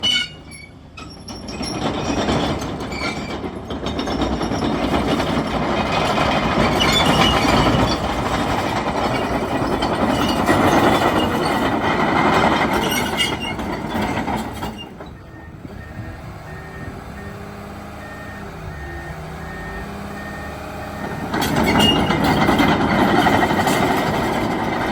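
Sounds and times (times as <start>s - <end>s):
bulldozer engine: 0.0s - 24.9s
bulldozer tracks clanking: 0.0s - 24.9s.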